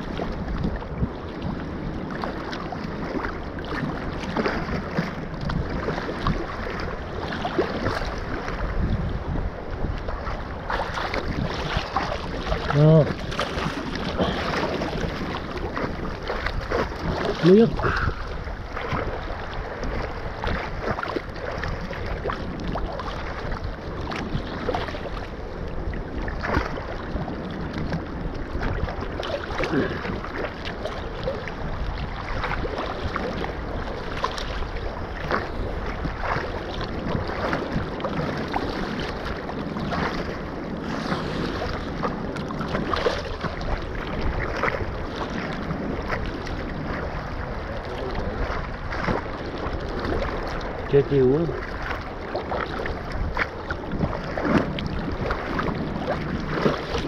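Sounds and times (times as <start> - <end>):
sea water sloshing: 0.0 - 57.0
wind on microphone: 0.0 - 57.0.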